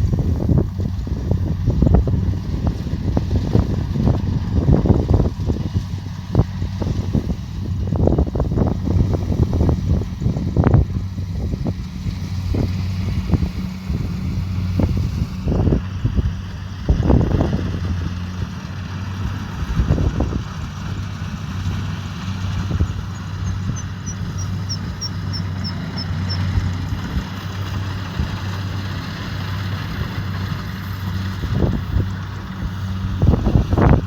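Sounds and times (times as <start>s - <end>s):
combine harvester diesel engine: 0.0s - 34.0s
wind gusts on microphone: 0.0s - 34.0s.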